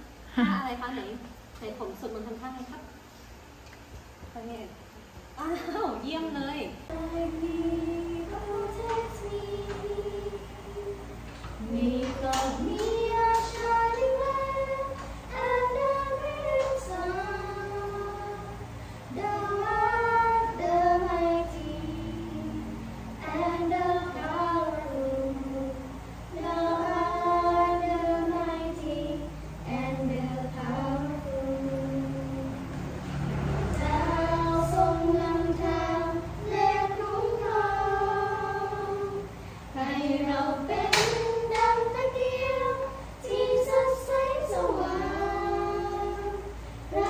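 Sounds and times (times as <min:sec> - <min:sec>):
women and children chanting prayer: 0:06.8 - 0:47.0.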